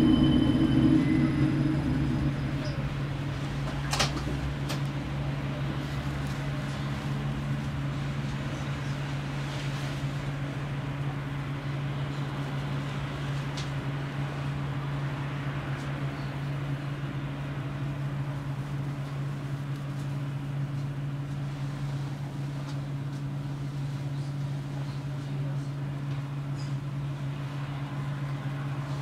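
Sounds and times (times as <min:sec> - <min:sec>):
tram electrical hum: 0:00.0 - 0:29.0
tram running noise: 0:00.0 - 0:29.0.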